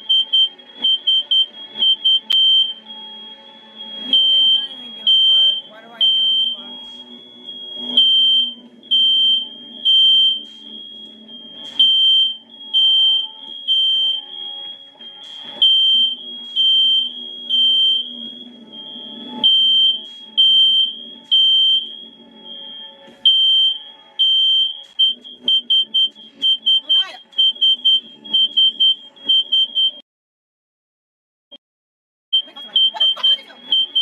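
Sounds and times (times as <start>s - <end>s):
fire alarm beeping: 0.0s - 30.0s, 32.3s - 34.0s.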